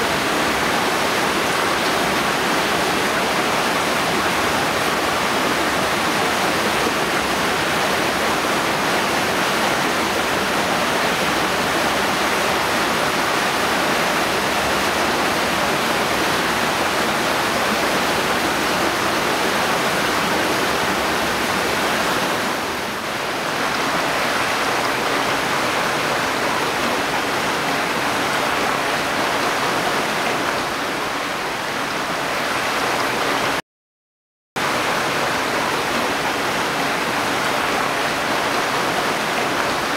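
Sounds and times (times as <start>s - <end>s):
stream water rushing: 0.0s - 33.6s, 34.6s - 39.9s.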